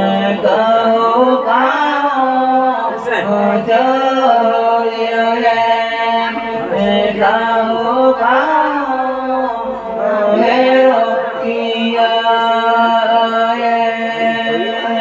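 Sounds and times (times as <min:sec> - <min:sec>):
voices singing folk song: 0:00.0 - 0:15.0.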